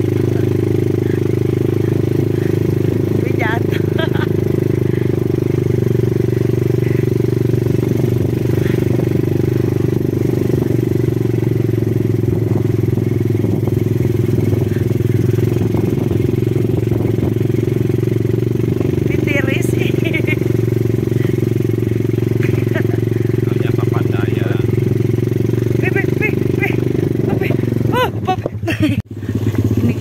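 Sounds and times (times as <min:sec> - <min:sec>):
van engine and road drone: 0:00.0 - 0:30.0.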